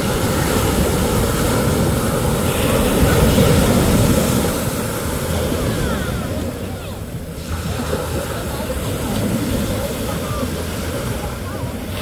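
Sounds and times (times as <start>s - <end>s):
ocean surf roaring: 0.0s - 12.0s.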